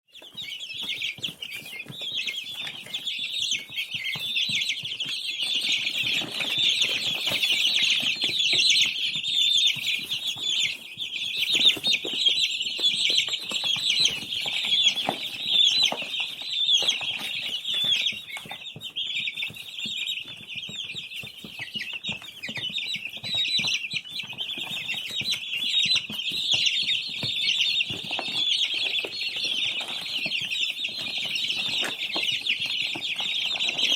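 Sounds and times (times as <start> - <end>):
baby chicks peeping: 0.0 - 33.9
soft taps and rustles: 0.2 - 33.9.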